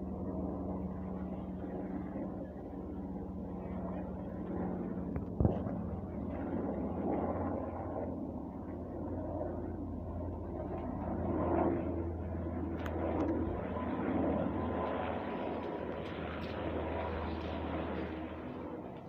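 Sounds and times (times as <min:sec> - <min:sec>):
distant helicopter droning: 0:00.0 - 0:19.0.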